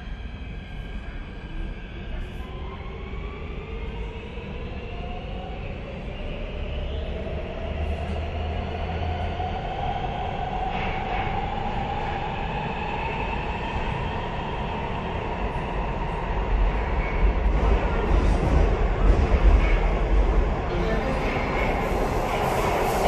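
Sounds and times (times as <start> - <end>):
rumble of train wheels: 0.0 - 23.0.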